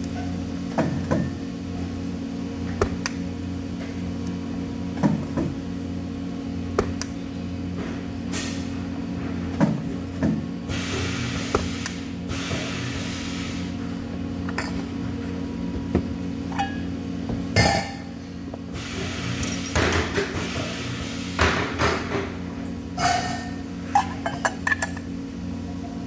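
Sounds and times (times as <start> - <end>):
workshop machinery hum: 0.0 - 26.0.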